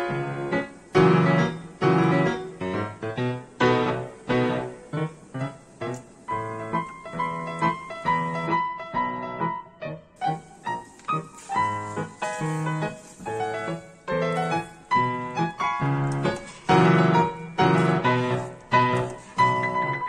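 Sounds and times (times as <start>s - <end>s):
piano background music: 0.0s - 20.0s.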